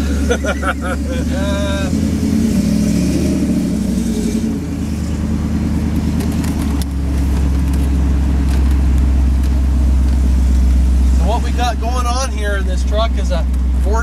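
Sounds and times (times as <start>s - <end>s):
pickup engine low drone: 0.0s - 14.0s.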